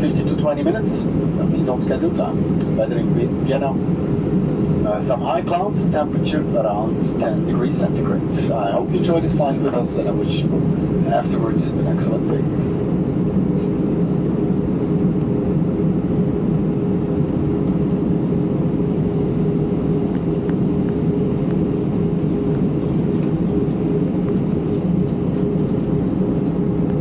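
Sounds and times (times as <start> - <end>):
faint constant hum: 0.0 - 27.0
jet engines and rushing air: 0.0 - 27.0.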